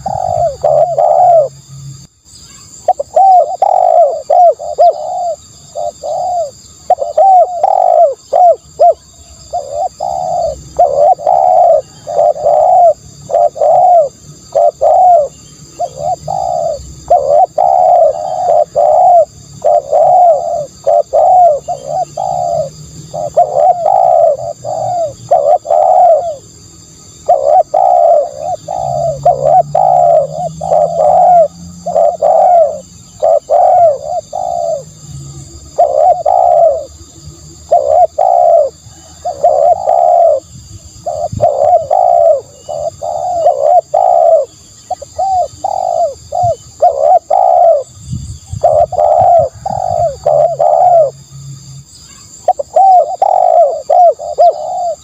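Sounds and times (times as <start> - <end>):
doves cooing: 0.0 - 2.1, 2.7 - 51.3, 52.2 - 55.0.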